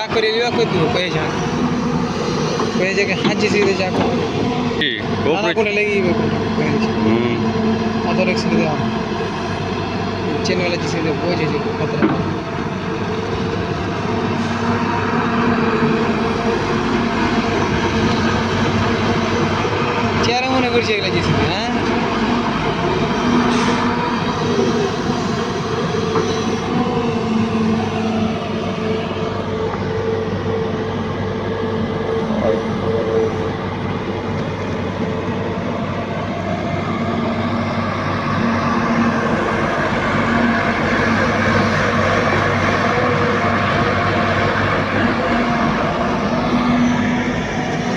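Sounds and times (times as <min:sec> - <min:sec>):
excavator engine rumbling: 0:00.0 - 0:47.9
held whine: 0:00.0 - 0:47.9.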